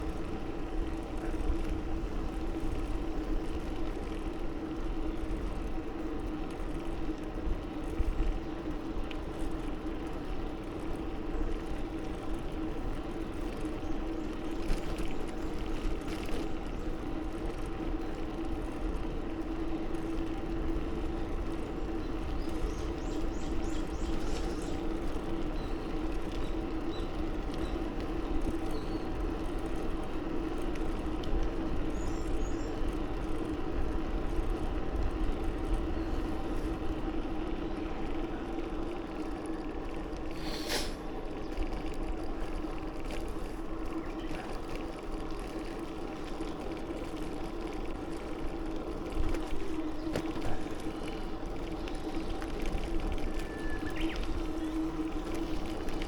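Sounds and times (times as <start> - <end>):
bicycle tyre noise on pavement: 0.0 - 56.0.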